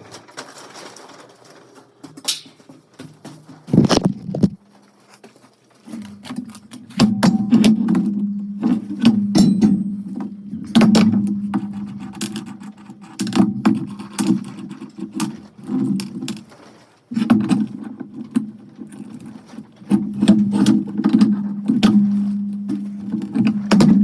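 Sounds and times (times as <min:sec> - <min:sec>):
sharp metal clanks and rattles: 0:00.0 - 0:04.6, 0:05.8 - 0:24.0.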